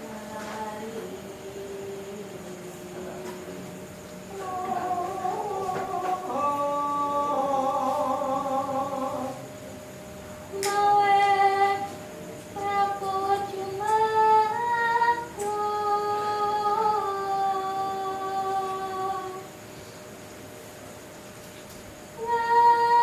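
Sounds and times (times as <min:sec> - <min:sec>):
woman singing long held notes: 0:00.0 - 0:03.6, 0:04.3 - 0:09.5, 0:10.5 - 0:19.5, 0:22.2 - 0:23.0.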